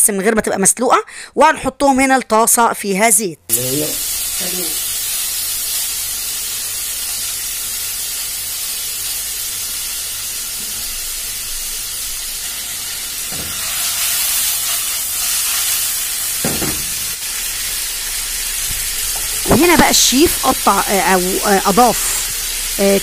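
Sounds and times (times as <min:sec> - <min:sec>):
meat sizzling in a frying pan: 0:03.5 - 0:23.0.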